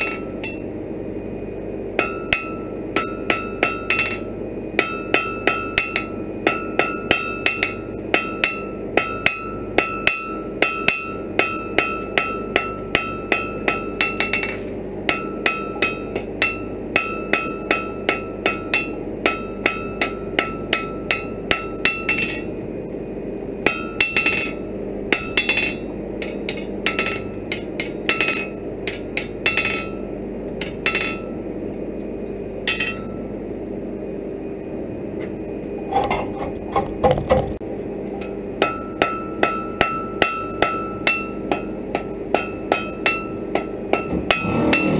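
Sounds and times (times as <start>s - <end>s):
hammer striking iron on anvil: 0.0s - 0.6s, 2.0s - 22.6s, 23.6s - 31.6s, 32.6s - 33.4s, 38.2s - 44.9s
low hum: 0.0s - 44.9s.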